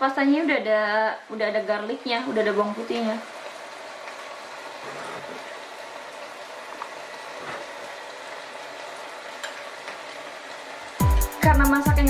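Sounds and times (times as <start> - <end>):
meat sizzling in a pan: 0.0 - 11.9.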